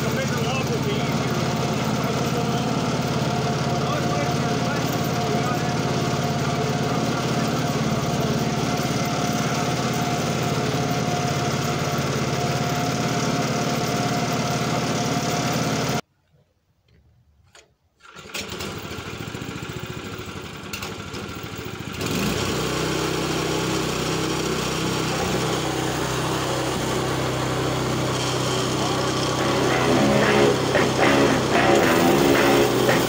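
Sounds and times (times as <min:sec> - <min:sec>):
gasoline engine running: 0:00.0 - 0:16.0, 0:18.1 - 0:33.0.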